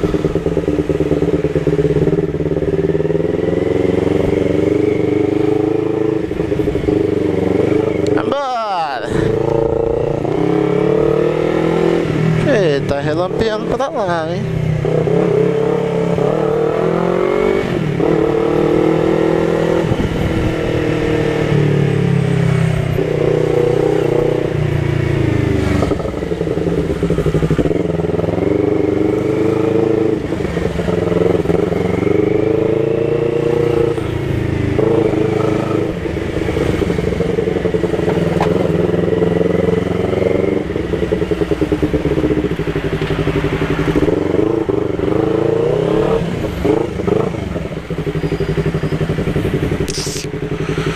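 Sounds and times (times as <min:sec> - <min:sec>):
motorcycle accelerating: 0:00.0 - 0:50.9.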